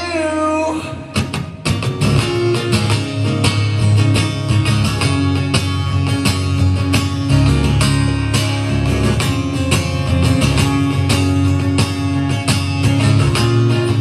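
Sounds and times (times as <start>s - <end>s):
guitar strummed: 0.0s - 14.0s.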